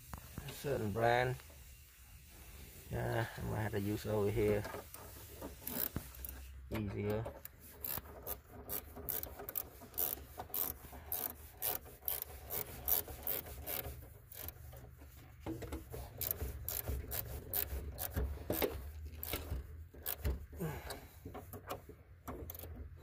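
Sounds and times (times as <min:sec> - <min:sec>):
rubbing and scraping: 0:00.4 - 0:23.0.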